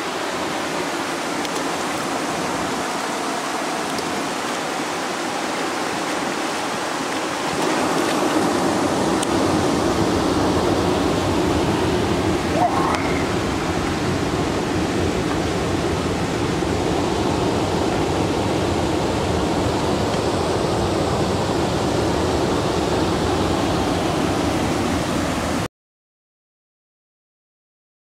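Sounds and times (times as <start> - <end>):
river water rushing over a weir: 0.0 - 25.7.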